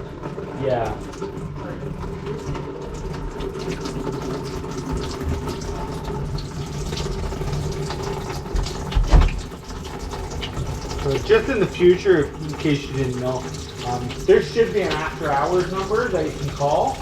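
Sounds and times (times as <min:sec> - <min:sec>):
water running in sink drain: 0:00.0 - 0:17.0.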